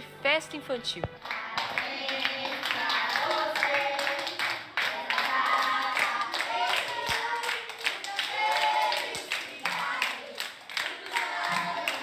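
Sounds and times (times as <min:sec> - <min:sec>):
children clapping in time: 0:01.2 - 0:12.0
children singing together: 0:01.3 - 0:12.0.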